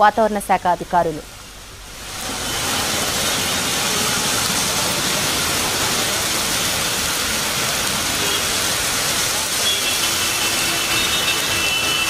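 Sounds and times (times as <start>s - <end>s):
traffic on a wet street: 0.0s - 12.0s
heavy rain on a road: 1.2s - 12.0s.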